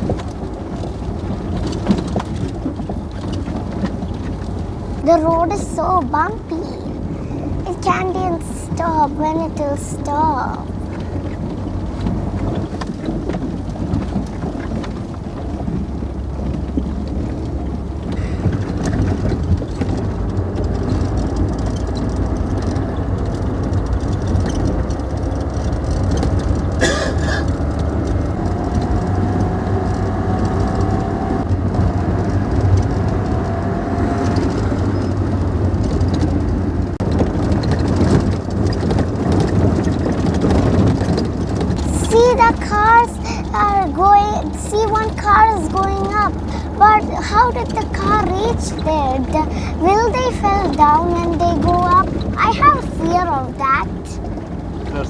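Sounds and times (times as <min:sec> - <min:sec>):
car engine running: 0:00.0 - 0:55.0
car jolting over bumpy track: 0:00.0 - 0:55.0.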